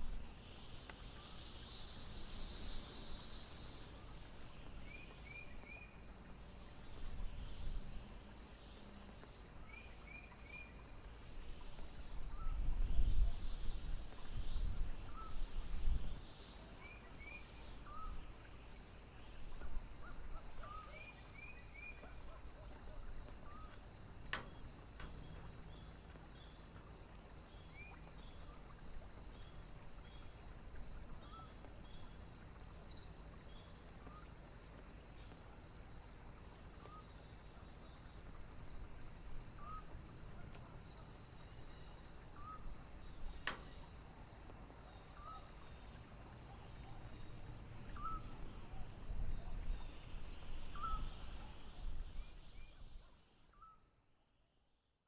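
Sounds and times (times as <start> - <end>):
cricket chirping: 0.0 - 54.8.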